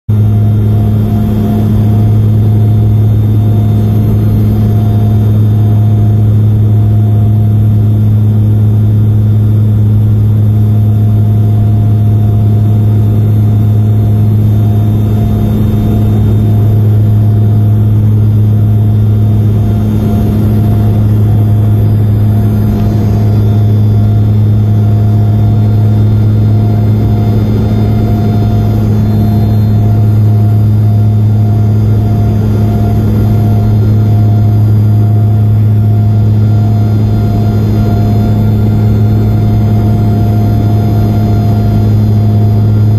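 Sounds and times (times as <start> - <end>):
airliner engines droning in cabin: 0.1 - 42.9.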